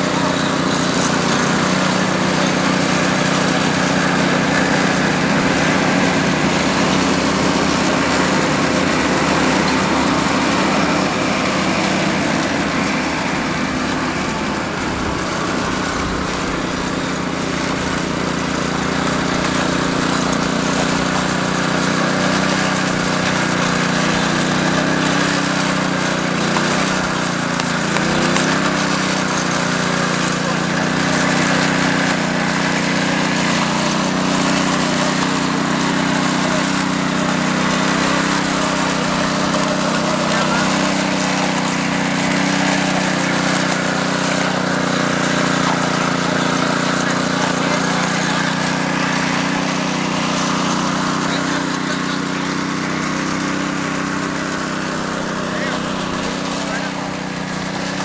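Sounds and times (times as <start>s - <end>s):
power trowel petrol engine running: 0.0s - 58.0s.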